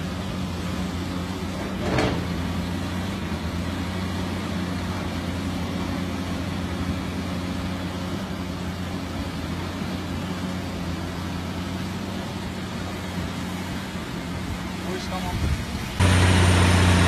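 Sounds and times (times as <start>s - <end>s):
diesel excavator engines running: 0.0s - 17.0s.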